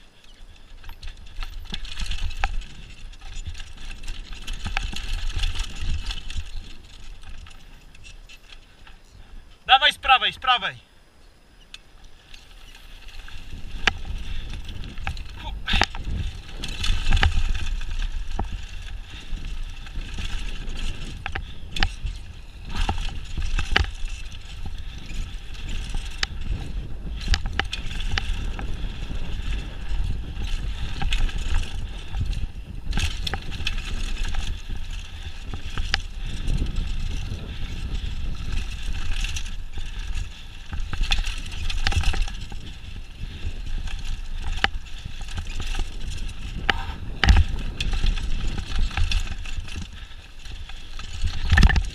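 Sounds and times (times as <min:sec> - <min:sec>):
bike rattling over bumps: 0:00.0 - 0:10.7, 0:11.8 - 0:51.9
bike tyres rolling on dirt: 0:00.0 - 0:51.9
deep wind rumble: 0:00.8 - 0:09.5, 0:12.2 - 0:51.9.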